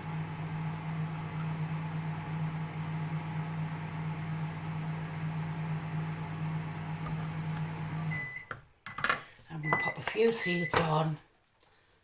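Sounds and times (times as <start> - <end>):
appliance humming: 0.0 - 10.9.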